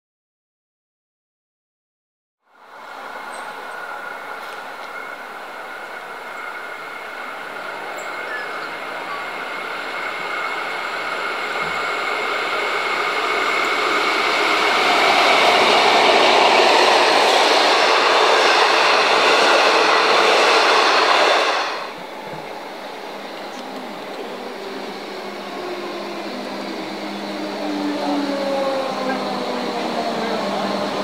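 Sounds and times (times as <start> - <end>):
diesel train passing: 2.5 - 31.0.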